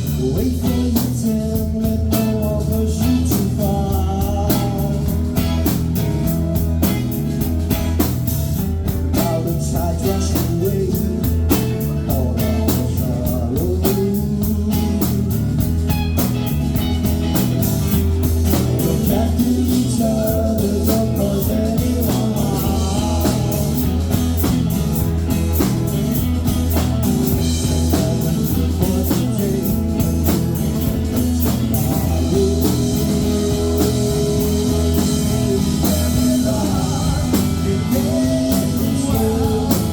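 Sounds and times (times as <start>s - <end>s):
bass line: 0.0s - 39.9s
drums: 0.0s - 39.9s
electric guitar: 0.0s - 39.9s.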